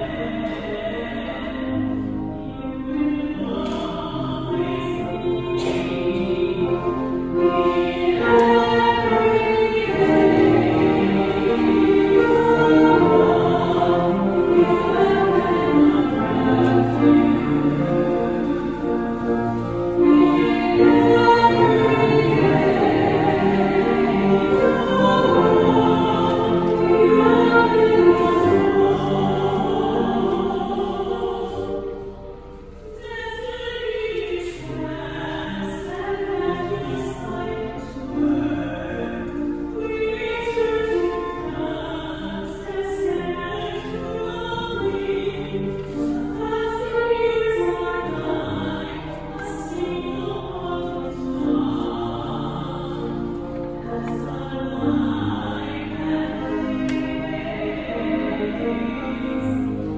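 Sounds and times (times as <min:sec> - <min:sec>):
choir-like singing music: 0:00.0 - 0:59.9.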